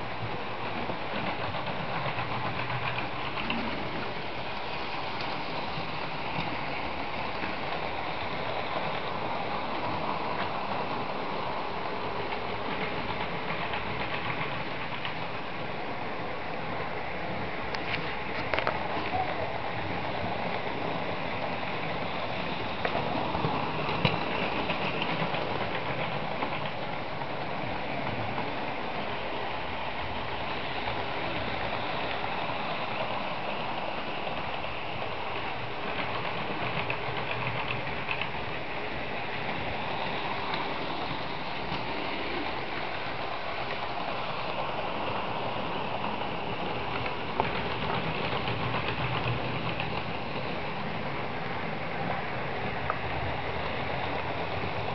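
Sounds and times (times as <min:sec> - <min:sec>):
model train whirring rattle: 0:00.0 - 0:54.9.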